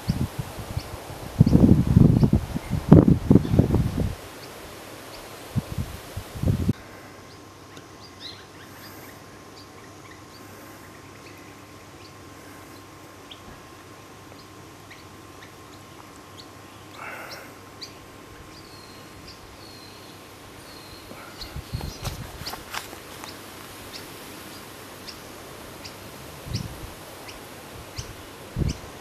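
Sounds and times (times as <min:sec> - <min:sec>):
birds chirping: 0:00.0 - 0:05.8, 0:06.4 - 0:29.0.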